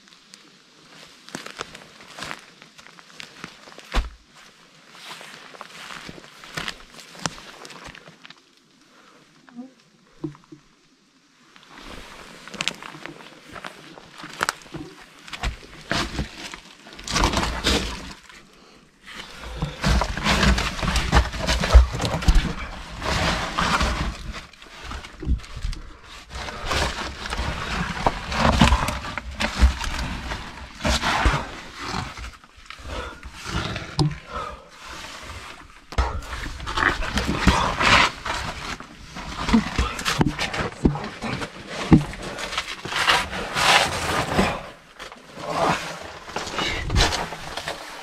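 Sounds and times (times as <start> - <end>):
stones and leaves crunching underfoot: 0.0 - 8.8, 11.4 - 48.0.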